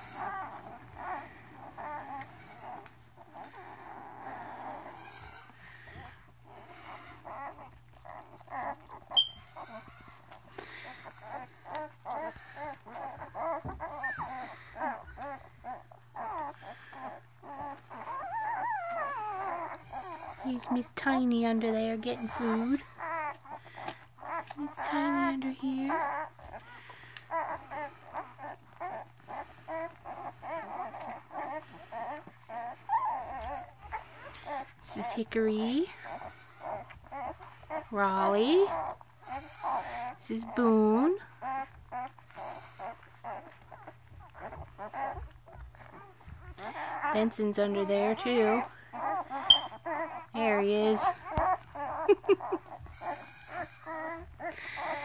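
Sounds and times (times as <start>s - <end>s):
puppies whimpering and squealing: 0.0s - 55.0s.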